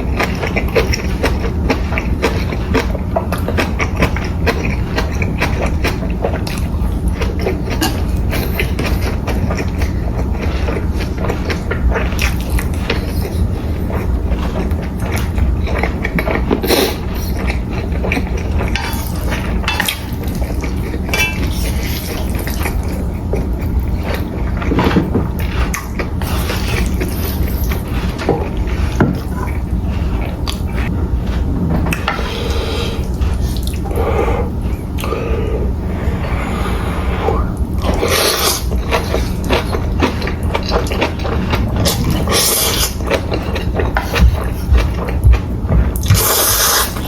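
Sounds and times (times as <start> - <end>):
steady low hum: 0.0 - 47.0
wet chewing and slurping: 0.0 - 47.0.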